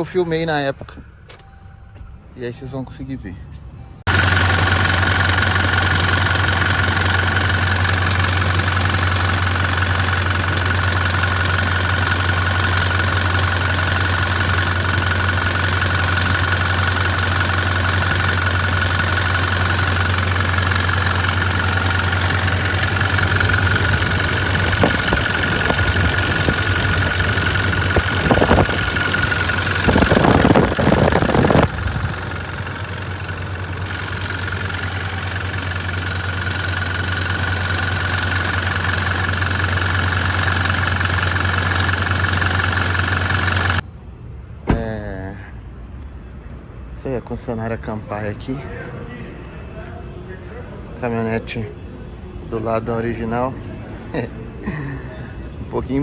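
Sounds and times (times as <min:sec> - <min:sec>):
diesel engine idling: 0:00.0 - 0:56.0
high engine whine: 0:00.0 - 0:56.0
louder engine noises: 0:00.0 - 0:56.0.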